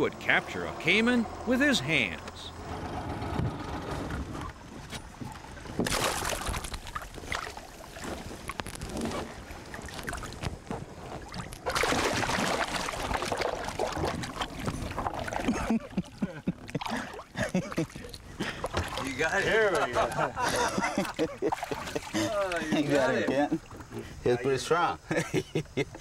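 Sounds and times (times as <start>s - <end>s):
water splashing against boat: 3.4s - 24.6s.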